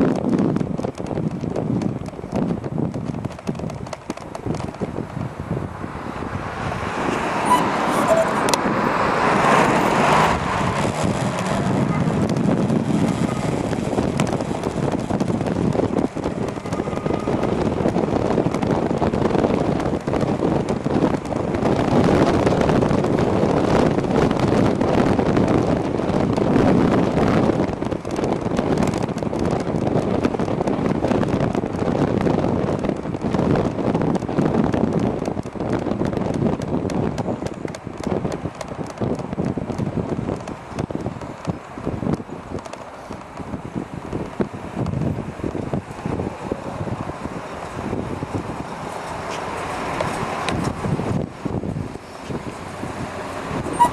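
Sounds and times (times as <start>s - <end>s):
road traffic: 0.0s - 53.9s
wind buffeting microphone: 0.0s - 53.9s.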